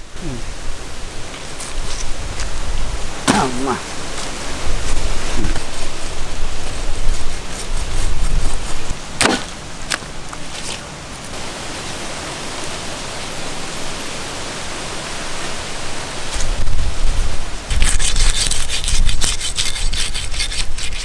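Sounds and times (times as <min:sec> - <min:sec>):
steady hiss: 0:00.0 - 0:20.8.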